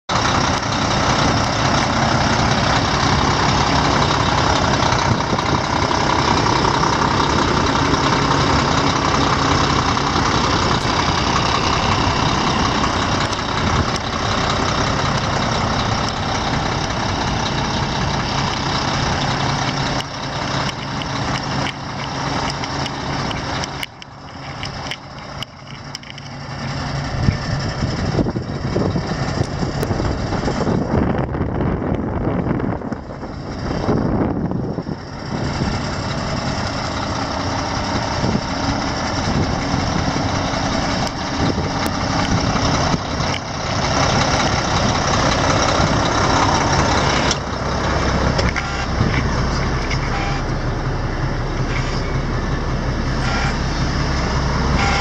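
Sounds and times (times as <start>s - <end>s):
diesel truck engine idling: 0.1s - 55.0s.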